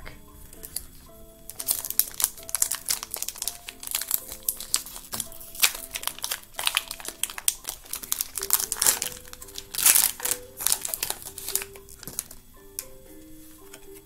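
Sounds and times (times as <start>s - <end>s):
soft sustained music: 0.0s - 14.0s
foil wrapper crinkling: 0.6s - 12.4s.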